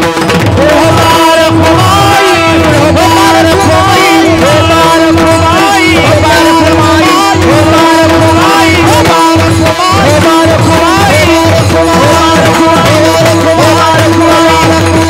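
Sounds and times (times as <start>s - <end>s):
hand drum steady rhythm: 0.0s - 15.0s.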